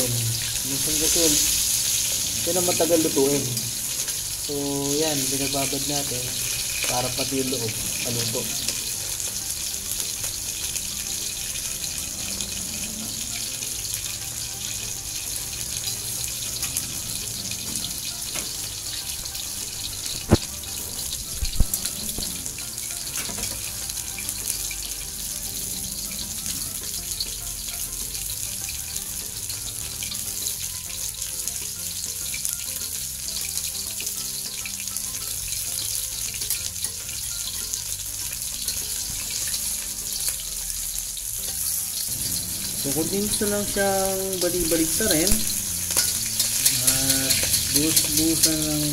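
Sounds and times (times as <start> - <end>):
fish sizzling in hot oil: 0.0 - 48.9.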